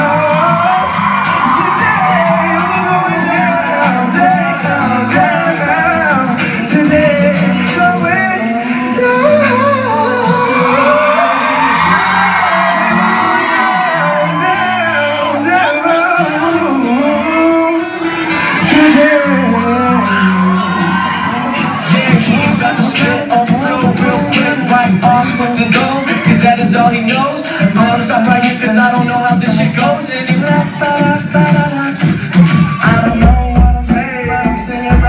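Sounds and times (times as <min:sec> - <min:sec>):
crowd shouting: 0:00.0 - 0:28.9, 0:29.7 - 0:35.0
acoustic guitar: 0:00.0 - 0:35.0
band accompaniment: 0:00.0 - 0:35.0
men singing: 0:00.0 - 0:35.0.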